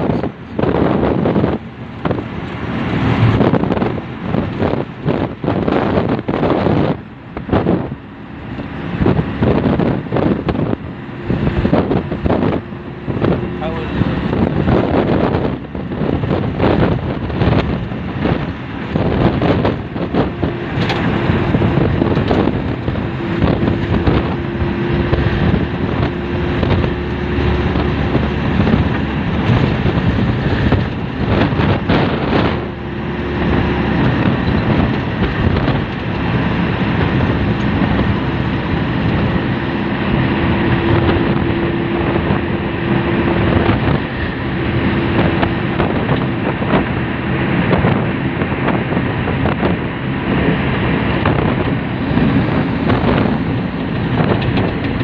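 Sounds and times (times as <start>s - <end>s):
storm wind buffeting microphone: 0.0s - 55.0s.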